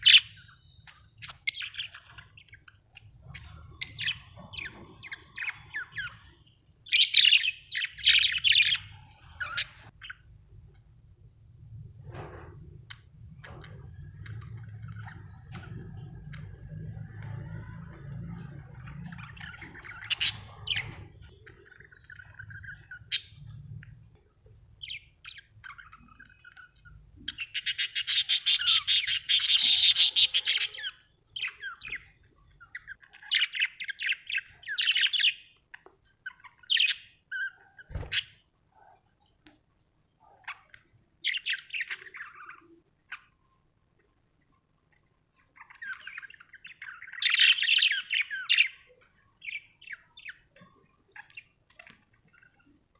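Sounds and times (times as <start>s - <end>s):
budgerigars chirping and chattering: 0.0s - 10.8s, 11.4s - 24.0s, 24.7s - 39.0s, 40.2s - 43.4s, 45.4s - 52.9s.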